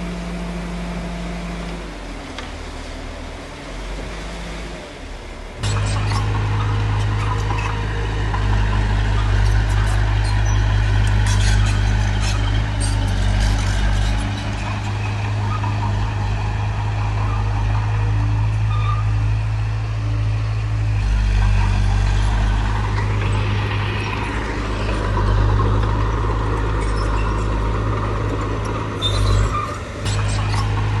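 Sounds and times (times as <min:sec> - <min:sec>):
bulldozer diesel engine: 0:00.0 - 0:31.0.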